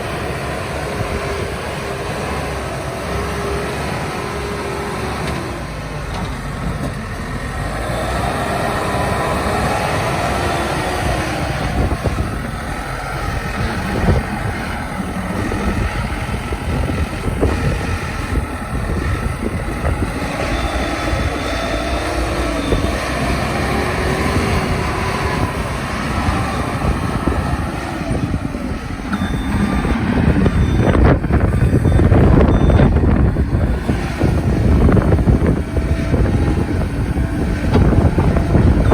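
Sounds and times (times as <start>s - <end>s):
diesel engine rising and falling: 0.0s - 38.9s.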